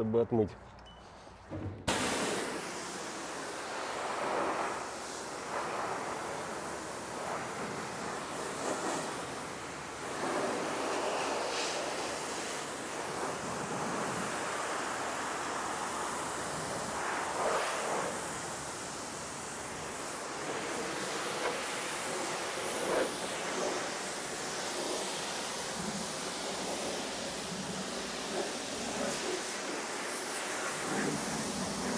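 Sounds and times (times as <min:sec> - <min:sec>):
high-pressure water spray hissing: 0:01.9 - 0:31.9.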